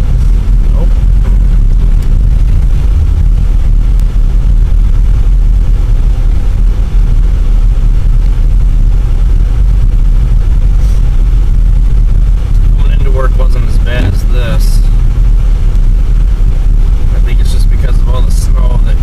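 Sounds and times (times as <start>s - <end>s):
car tyre and engine rumble: 0.0s - 19.0s.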